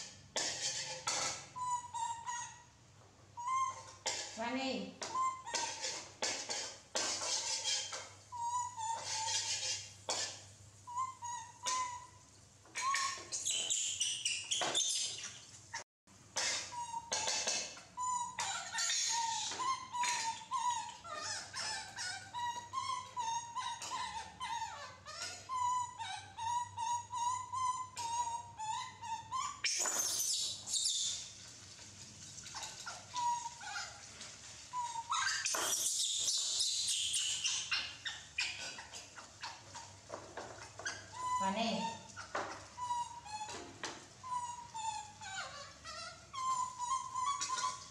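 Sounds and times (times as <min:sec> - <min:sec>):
baby monkeys cooing and chirping: 0:00.0 - 0:02.7, 0:03.4 - 0:04.4, 0:05.0 - 0:15.8, 0:16.4 - 0:31.3, 0:32.5 - 0:34.1, 0:34.7 - 0:47.9.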